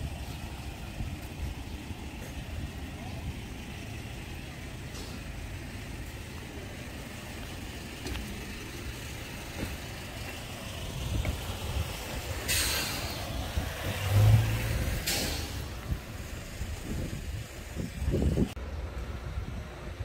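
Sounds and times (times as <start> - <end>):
vehicle engine low rumble: 0.0 - 20.0.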